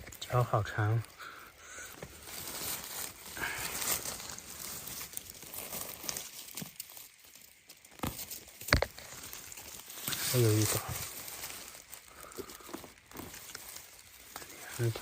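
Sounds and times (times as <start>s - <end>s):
dry leaves rustling and crackling: 0.0s - 15.0s.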